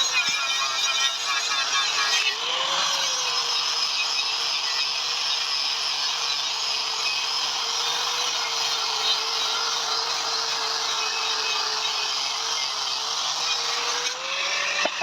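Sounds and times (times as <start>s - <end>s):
small motor running: 0.0s - 15.0s.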